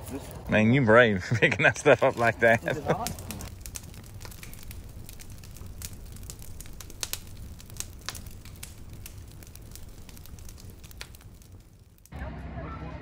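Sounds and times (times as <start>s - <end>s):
fire pops: 0.0s - 12.2s
wood fire crackling: 0.0s - 12.3s.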